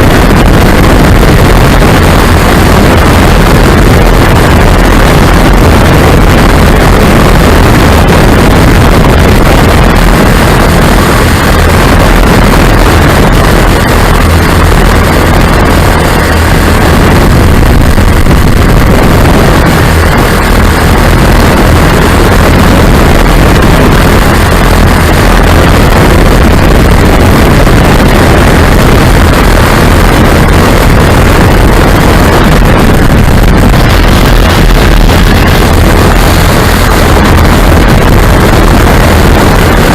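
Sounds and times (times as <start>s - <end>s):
aircraft engines droning: 0.0s - 39.9s
wind buffeting microphone: 0.0s - 39.9s.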